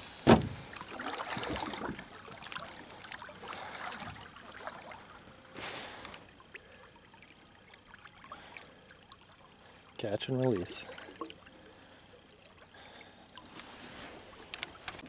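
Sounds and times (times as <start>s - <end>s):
river water splashing and trickling: 0.0s - 15.0s.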